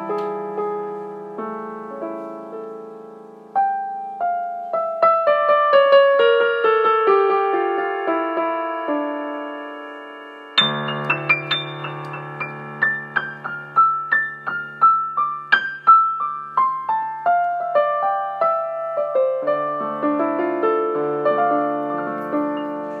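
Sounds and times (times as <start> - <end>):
slow solo piano music: 0.0 - 23.0.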